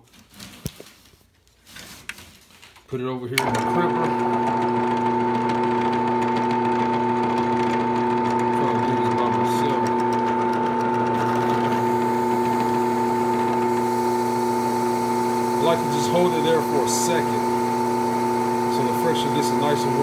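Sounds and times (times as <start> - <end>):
drill press motor humming: 3.4 - 20.0.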